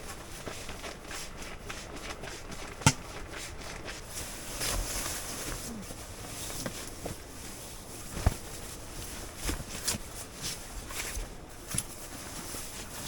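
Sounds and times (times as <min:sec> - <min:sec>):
camping gear rustling and knocking: 0:00.0 - 0:13.0.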